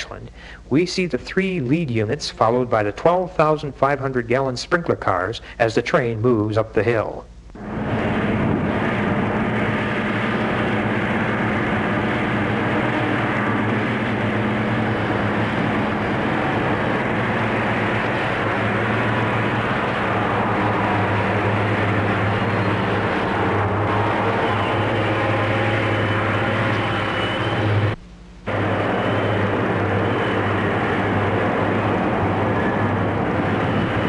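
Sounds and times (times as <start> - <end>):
diesel locomotives working hard: 0.0 - 6.8, 7.6 - 34.0.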